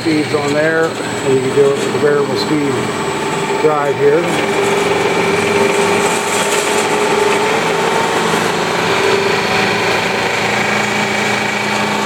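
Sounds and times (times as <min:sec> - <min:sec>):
drill press humming and whining: 0:00.0 - 0:12.0.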